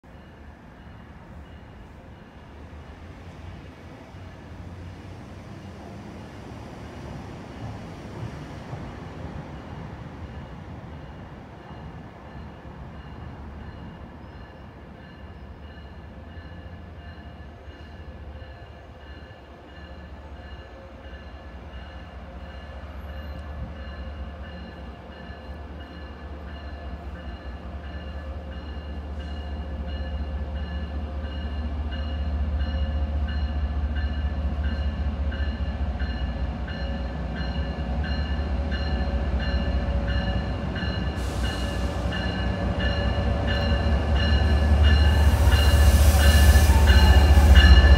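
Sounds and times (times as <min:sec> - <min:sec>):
diesel locomotive engine rumble: 0:00.0 - 0:47.9.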